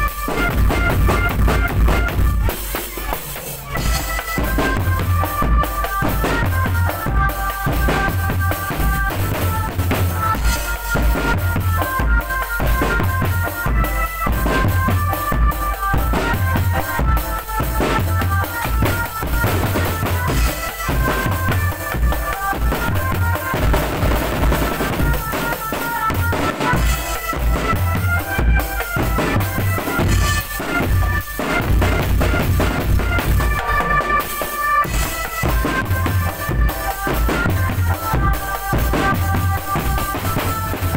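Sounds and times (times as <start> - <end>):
bass drums and snares beat: 0.0 - 34.1.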